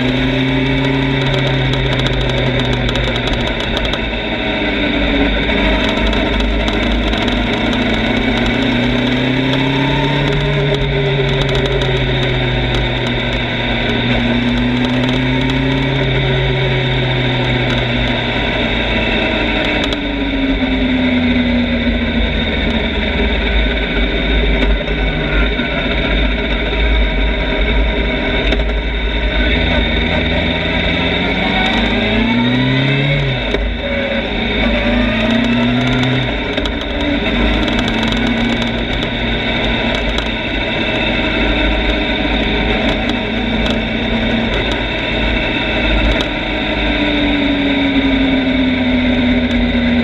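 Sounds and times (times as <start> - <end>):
motorcycle engine revving: 0.0 - 50.0
wind rumble on microphone: 0.0 - 50.0.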